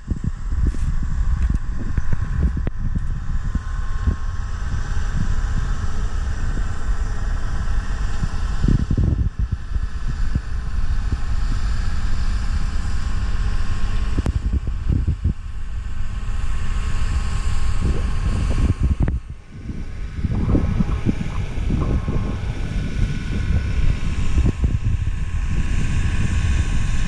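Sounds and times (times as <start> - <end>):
distant tractor engine drone: 0.0 - 27.0
wind buffeting microphone: 0.0 - 27.0.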